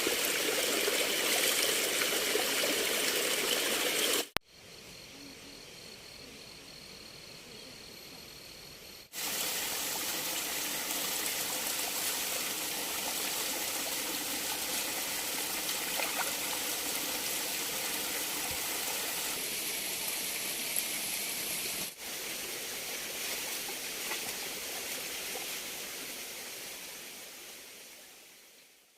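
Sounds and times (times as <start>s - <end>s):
water running in a stream: 0.0s - 4.4s, 9.1s - 28.9s.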